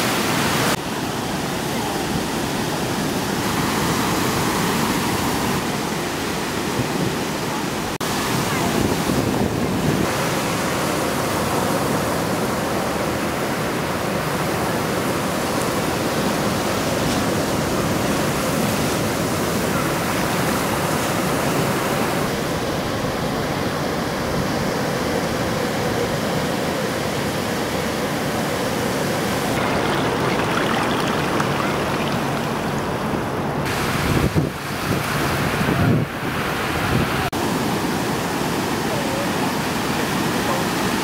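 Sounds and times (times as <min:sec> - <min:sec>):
ocean surf washing ashore: 0:00.0 - 0:41.0.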